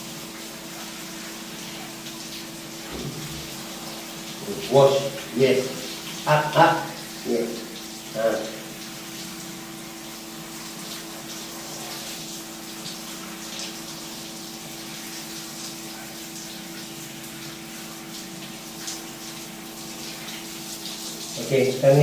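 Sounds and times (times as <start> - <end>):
bath water running and splashing: 0.0 - 22.0.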